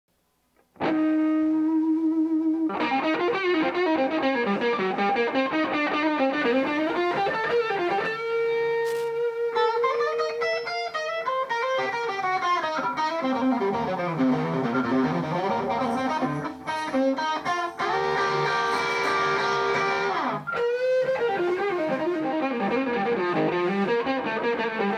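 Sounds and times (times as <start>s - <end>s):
electric guitar melody: 0.6s - 24.9s.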